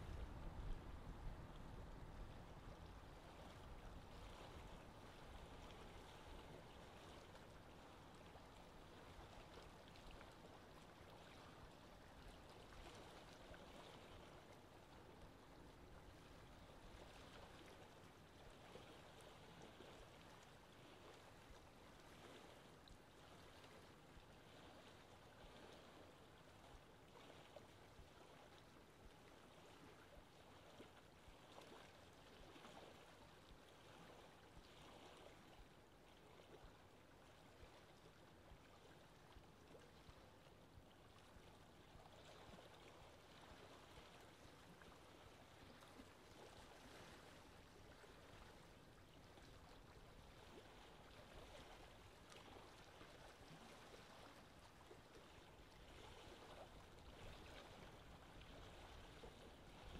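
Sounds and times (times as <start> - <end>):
small water splashes: 0.0 - 59.9
water lapping: 0.0 - 59.9
wind: 0.0 - 59.9.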